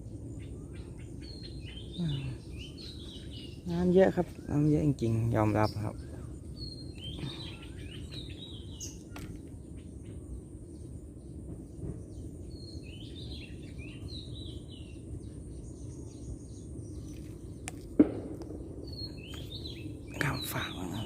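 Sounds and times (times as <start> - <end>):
birds chirping falling calls: 0.0 - 21.0.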